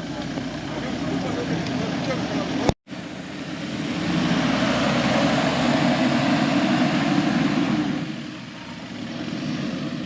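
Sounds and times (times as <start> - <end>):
engine running loudly: 0.0 - 10.0.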